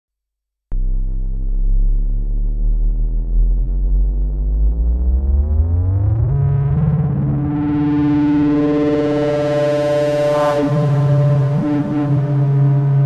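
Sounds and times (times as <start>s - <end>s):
distorted synth note rising: 0.7s - 13.0s.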